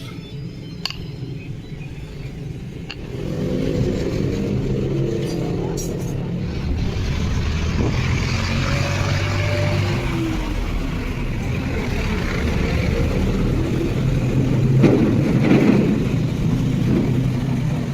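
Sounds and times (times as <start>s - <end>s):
engine-like rumble with low hum: 0.0s - 17.9s.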